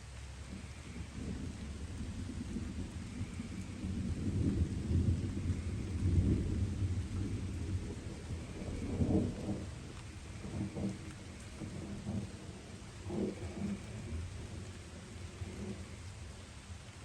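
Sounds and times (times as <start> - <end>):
light rain: 0.0 - 17.0
distant thunder rumbling: 0.4 - 17.0.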